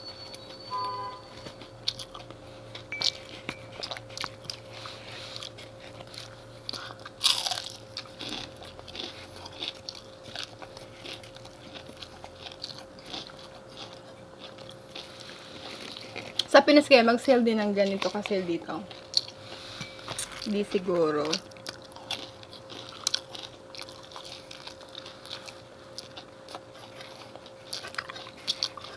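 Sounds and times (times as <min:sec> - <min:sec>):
faint steady hum: 0:00.0 - 0:28.9
crunching and chewing: 0:01.3 - 0:28.9.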